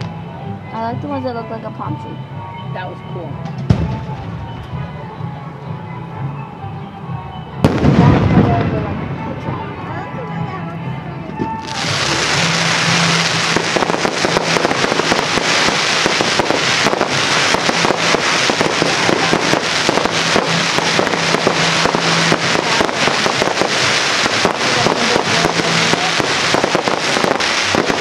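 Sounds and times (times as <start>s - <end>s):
fireworks crackling: 0.0s - 2.2s, 3.4s - 4.8s, 7.6s - 28.0s.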